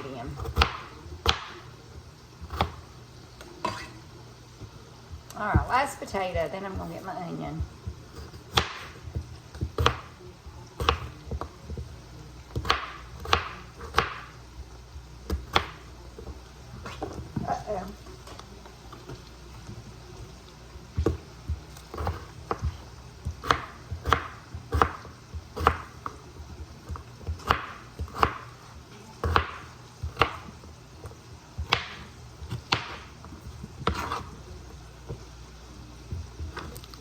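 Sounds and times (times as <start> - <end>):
knife chopping potato: 0.0 - 37.0.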